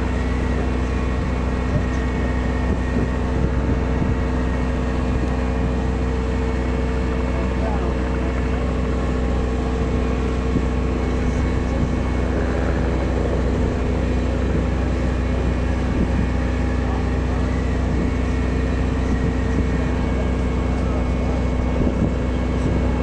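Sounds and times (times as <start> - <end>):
heavy equipment engine droning: 0.0 - 23.0.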